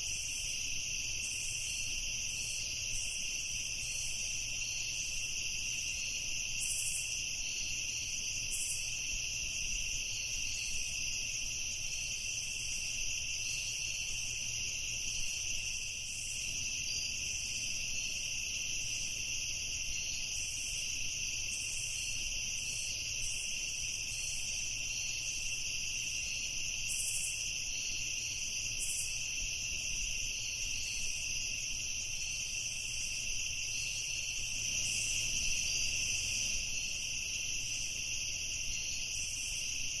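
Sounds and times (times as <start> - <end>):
crickets chirring: 0.0 - 40.0
high pulsing insect chirps: 0.1 - 40.0.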